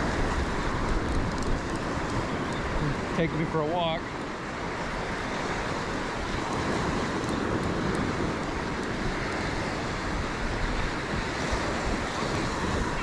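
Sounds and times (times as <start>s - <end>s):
surf waves breaking on sand: 0.0s - 13.0s
wind rumbling on microphone: 0.0s - 13.0s.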